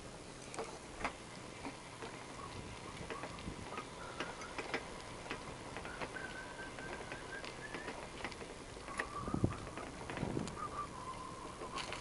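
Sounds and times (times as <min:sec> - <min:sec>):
bicycle clicking and ticking: 0:00.4 - 0:10.6.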